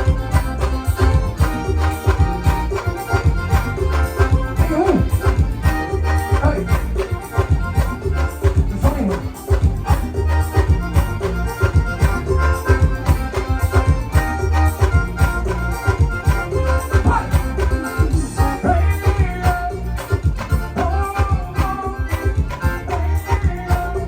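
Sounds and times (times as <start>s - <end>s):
fast beat music with heavy bass: 0.0s - 24.0s.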